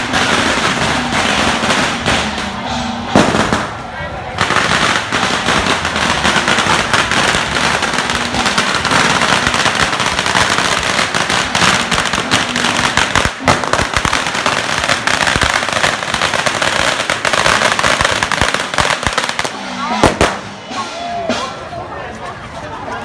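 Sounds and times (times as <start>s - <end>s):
firecrackers crackling: 0.0s - 21.9s.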